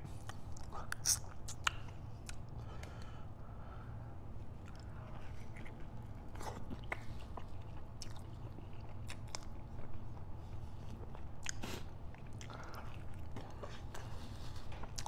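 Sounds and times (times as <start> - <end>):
person chewing food: 0.1 - 3.2, 4.4 - 15.0.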